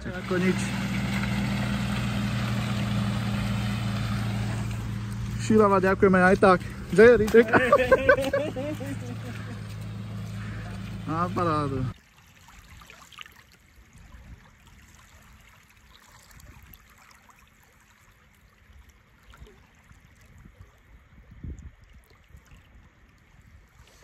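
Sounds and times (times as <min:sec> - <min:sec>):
waves lapping on sandy shore: 0:00.0 - 0:19.9.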